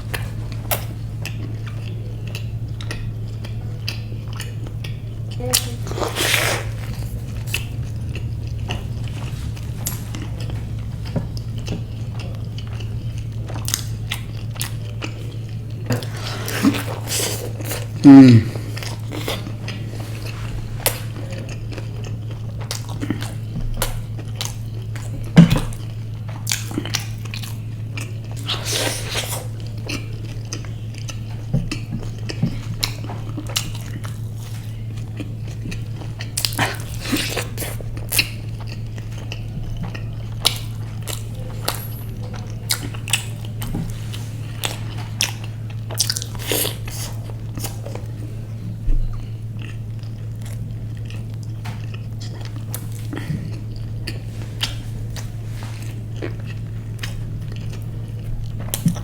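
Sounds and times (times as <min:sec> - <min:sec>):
crisp crunching and chewing: 0:00.0 - 0:48.4, 0:49.1 - 0:59.0
steady low hum: 0:00.0 - 0:59.0.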